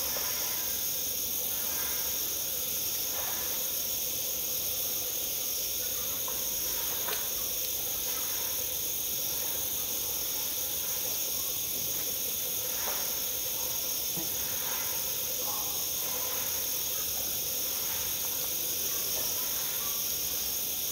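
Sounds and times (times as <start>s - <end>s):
high-pitched hiss: 0.0s - 20.9s.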